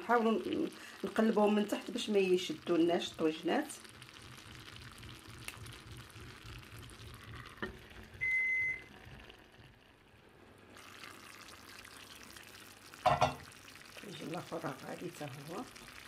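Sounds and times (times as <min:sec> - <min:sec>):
food bubbling in clay pots: 0:00.0 - 0:16.0.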